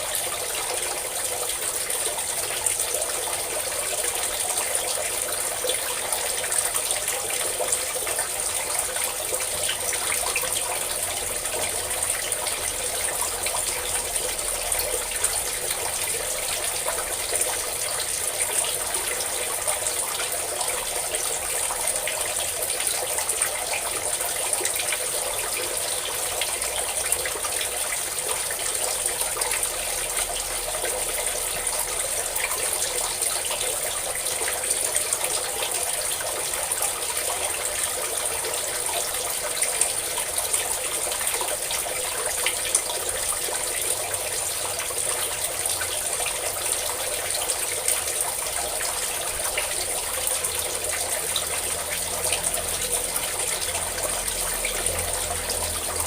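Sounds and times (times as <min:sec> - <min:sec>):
water pouring and splashing: 0:00.0 - 0:56.0.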